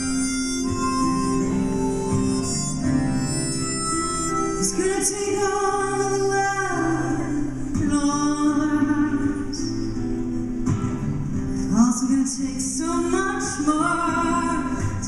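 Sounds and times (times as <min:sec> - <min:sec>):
acoustic guitars: 0:00.0 - 0:15.0.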